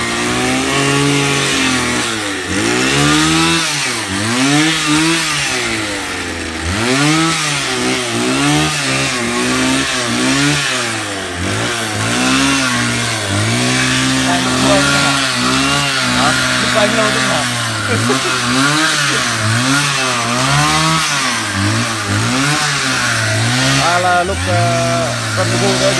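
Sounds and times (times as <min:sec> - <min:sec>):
motor revving: 0:00.0 - 0:25.9.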